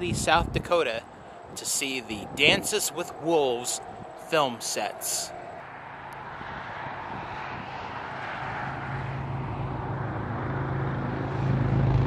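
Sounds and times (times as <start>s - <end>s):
engine drone: 1.0s - 12.0s.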